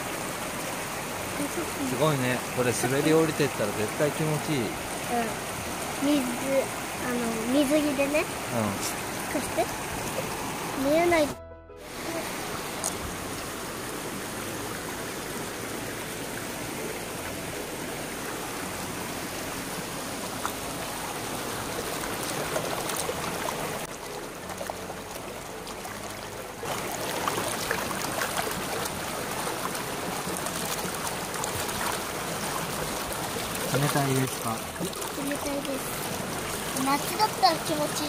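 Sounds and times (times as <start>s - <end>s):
stream water rushing over rock: 0.0s - 38.0s.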